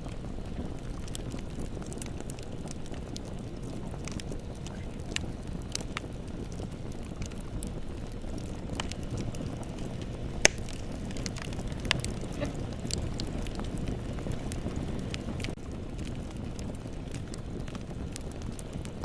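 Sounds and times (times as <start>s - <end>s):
bonfire rumble: 0.0s - 19.0s
burning wood crackles and pops: 0.0s - 19.0s.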